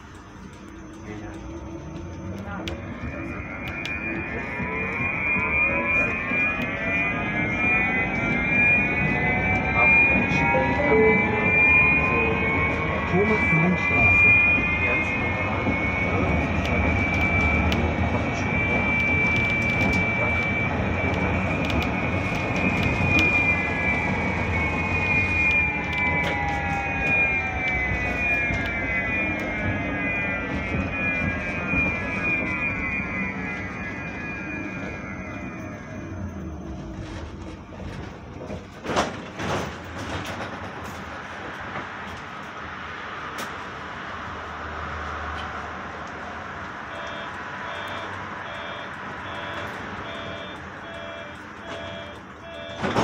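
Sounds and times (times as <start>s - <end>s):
high electric whine: 0.0s - 53.0s
tram rolling rumble: 0.0s - 53.0s.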